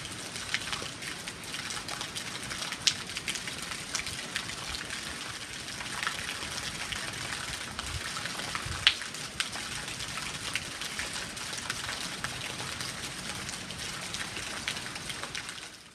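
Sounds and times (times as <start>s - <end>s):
raindrops ticking and splashing: 0.0s - 15.9s
steady rain: 0.0s - 15.9s.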